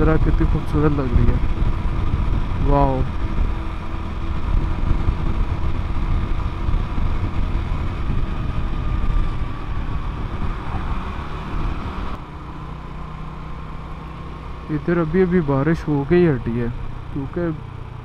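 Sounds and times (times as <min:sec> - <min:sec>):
motorcycle engine running: 0:00.0 - 0:18.0
wind and road noise: 0:00.0 - 0:18.0.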